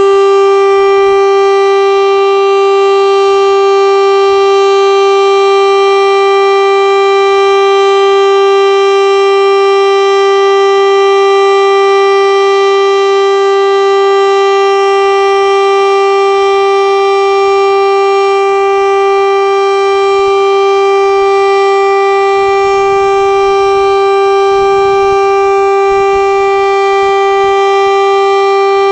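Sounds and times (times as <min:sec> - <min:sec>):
siren steady tone: 0:00.0 - 0:28.9.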